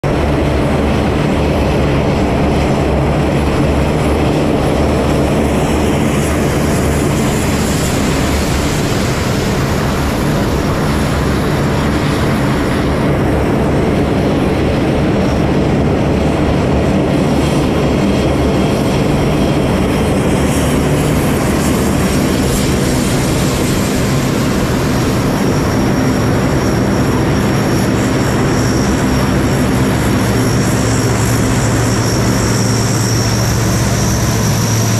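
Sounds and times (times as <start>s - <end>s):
turboprop propeller drone: 0.0s - 34.9s.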